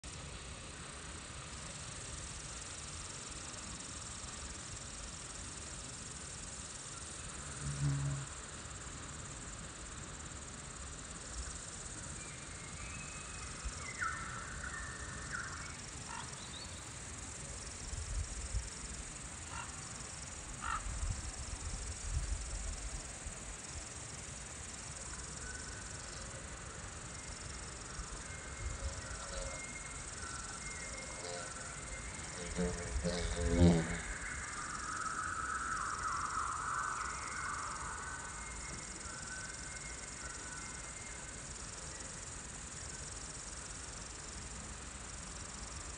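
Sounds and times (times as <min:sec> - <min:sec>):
insects chirring: 0:00.1 - 0:45.9.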